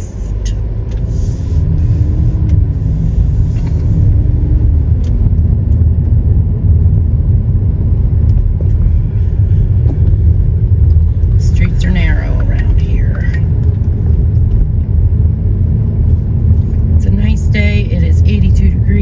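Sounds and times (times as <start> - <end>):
faint engine hum: 0.0 - 19.0
road and engine rumble in cabin: 0.0 - 19.0.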